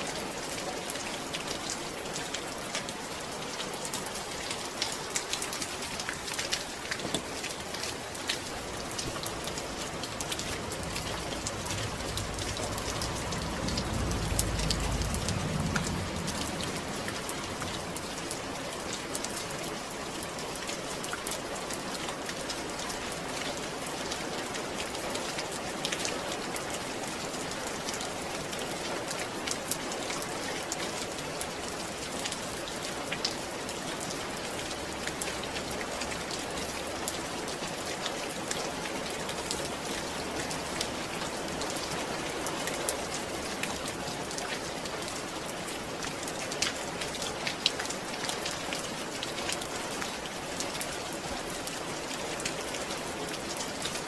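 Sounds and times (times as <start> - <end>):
sharp drips and patters: 0.0 - 54.0
steady rain hiss: 0.0 - 54.0.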